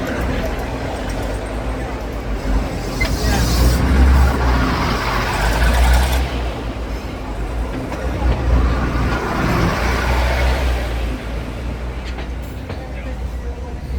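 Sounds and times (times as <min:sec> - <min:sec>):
diesel train engine rumble: 0:00.0 - 0:13.9
train running gear noise: 0:00.0 - 0:13.9.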